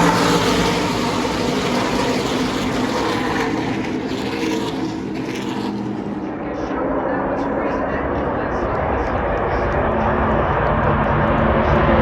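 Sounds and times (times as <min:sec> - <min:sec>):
race truck engines passing: 0:00.0 - 0:12.0.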